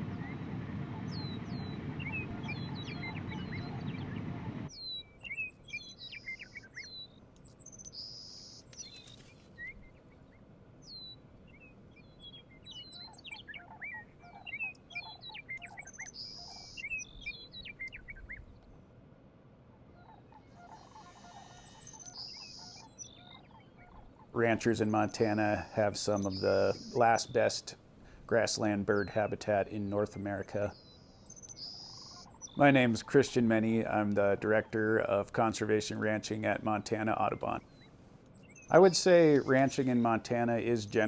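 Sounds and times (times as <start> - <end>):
birds singing and chirping: 0.0 - 10.1, 10.8 - 18.7, 20.0 - 41.0.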